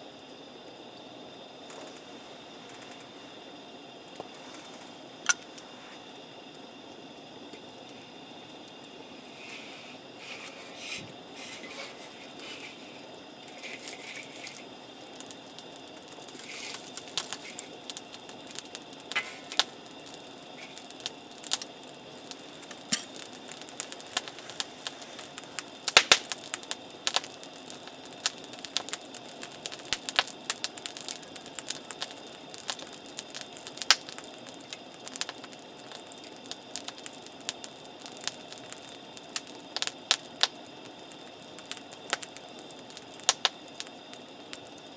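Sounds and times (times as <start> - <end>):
wood campfire crackling: 0.0 - 44.9
sharp pops and snaps of fire: 0.6 - 3.1, 4.1 - 5.8, 6.5 - 44.9.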